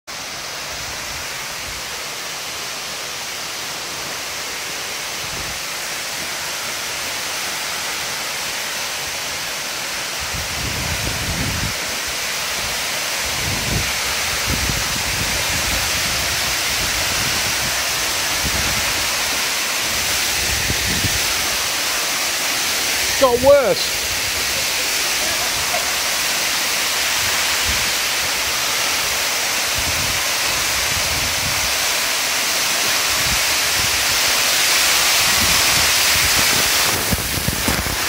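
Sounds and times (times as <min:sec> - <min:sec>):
waterfall rushing: 0:00.1 - 0:38.0.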